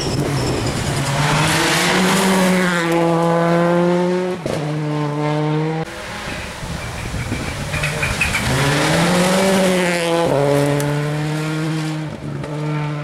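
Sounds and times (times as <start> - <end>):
rally car engine revving: 0.1 - 13.0.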